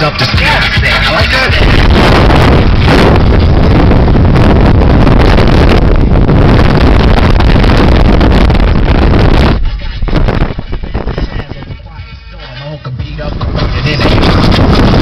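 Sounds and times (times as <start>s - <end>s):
wind buffeting microphone: 1.2s - 11.9s, 13.3s - 15.0s.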